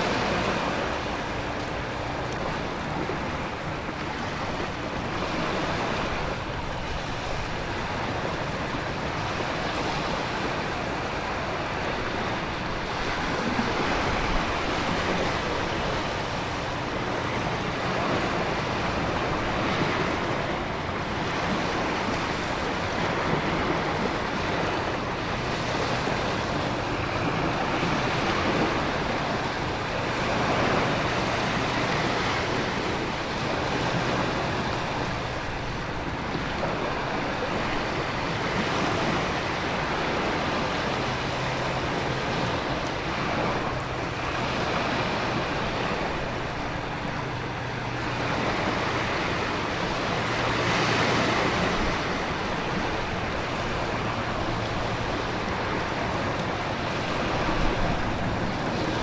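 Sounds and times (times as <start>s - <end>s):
gusting wind: 0.0s - 59.0s
waves crashing on rocky shore: 0.0s - 59.0s.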